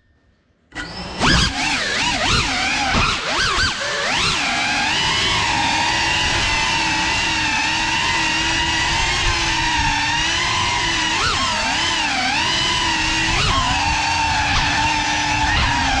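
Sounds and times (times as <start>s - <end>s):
quadcopter motors whining: 0.7s - 16.0s.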